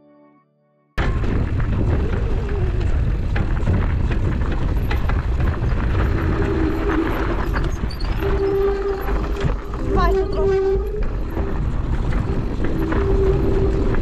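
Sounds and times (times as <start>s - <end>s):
bike knocks and rattles: 1.0s - 14.0s
wind rumble on microphone: 1.0s - 14.0s.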